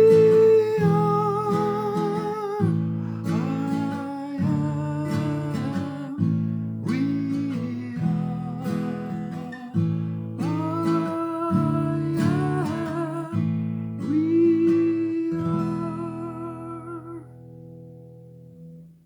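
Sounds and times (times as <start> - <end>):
acoustic guitar strumming chords: 0.0 - 19.0
wordless held melody: 0.0 - 19.0.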